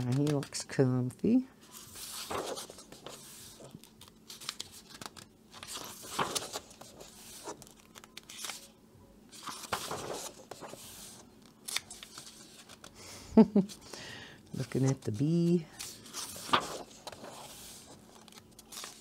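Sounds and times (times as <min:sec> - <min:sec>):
paper pages turning: 0:00.0 - 0:00.7, 0:01.6 - 0:08.7, 0:09.3 - 0:13.0, 0:14.5 - 0:19.0.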